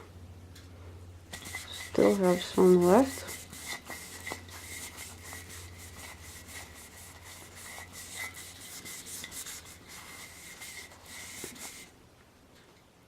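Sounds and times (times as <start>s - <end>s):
scrubbing frying pan: 1.3s - 11.9s.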